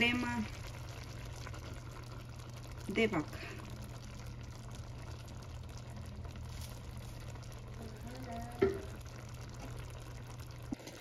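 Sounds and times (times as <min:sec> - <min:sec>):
pot of sauce sizzling: 0:00.0 - 0:11.0
steady low hum: 0:00.0 - 0:11.0.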